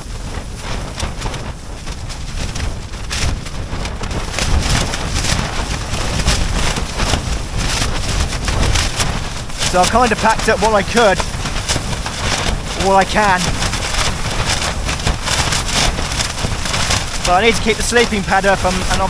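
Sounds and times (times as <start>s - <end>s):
tent fabric flapping: 0.0s - 19.0s
wind rumbling: 0.0s - 19.0s.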